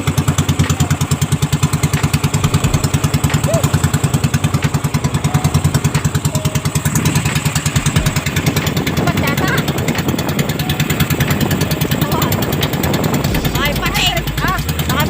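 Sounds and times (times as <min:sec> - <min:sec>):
boat engine putt-putting: 0:00.0 - 0:15.0.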